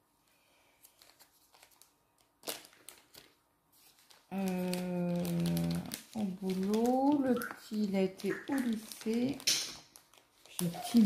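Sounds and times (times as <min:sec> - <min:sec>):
hands rustling materials: 0:00.2 - 0:11.0.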